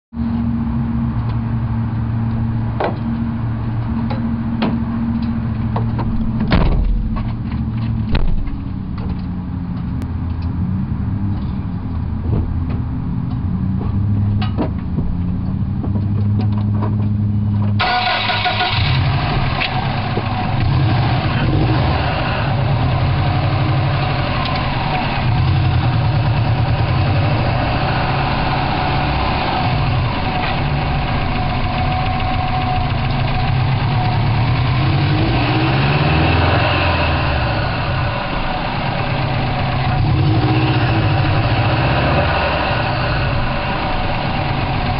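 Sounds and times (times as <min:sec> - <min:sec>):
car engine idling: 0:00.2 - 0:44.9.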